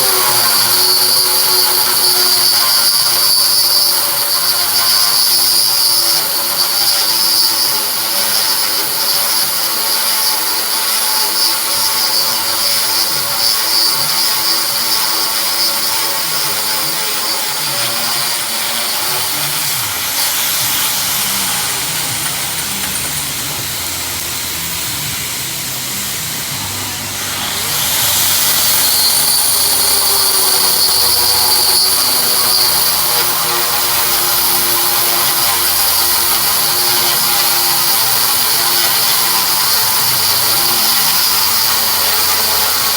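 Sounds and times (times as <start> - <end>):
power tool whining: 0.0 - 42.9.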